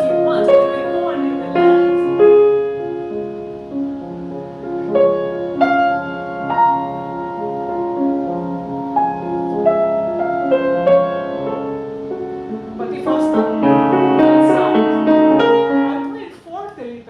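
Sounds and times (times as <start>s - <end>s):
solo piano melody: 0.0s - 16.6s.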